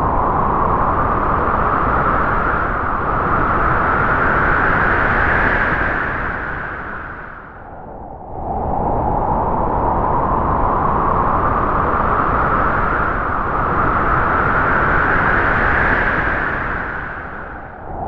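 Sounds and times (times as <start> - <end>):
howling wind gust: 0.0 - 18.0.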